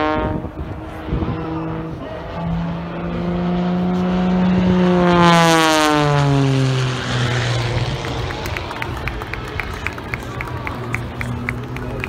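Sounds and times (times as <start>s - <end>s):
propeller aircraft passing overhead: 0.0s - 12.0s.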